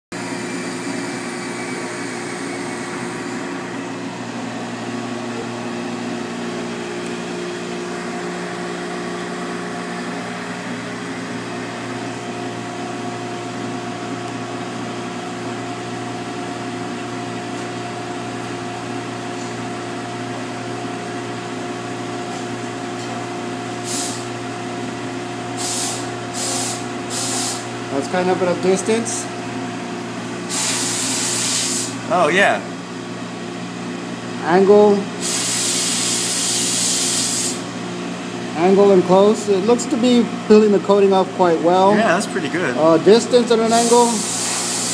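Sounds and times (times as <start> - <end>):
motor drone with hum: 0.2 - 36.8.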